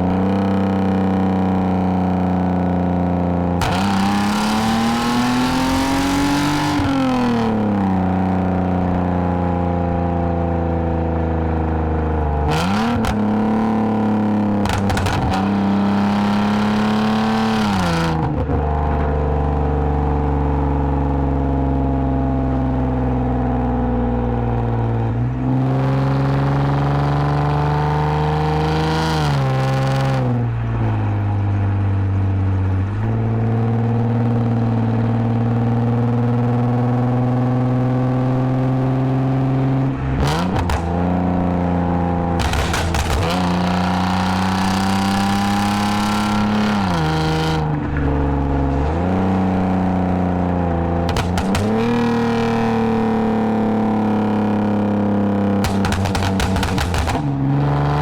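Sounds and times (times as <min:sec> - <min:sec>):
car engine under way: 0:00.0 - 0:58.0.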